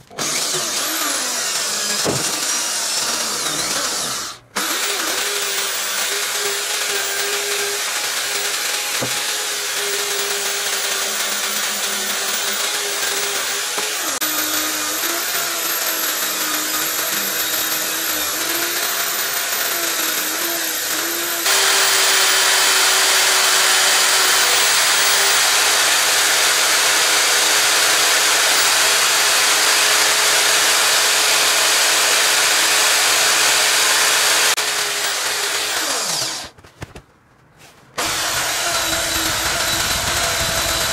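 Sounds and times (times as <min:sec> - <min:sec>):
drill motor whine: 0:00.2 - 0:36.5, 0:38.0 - 0:40.9.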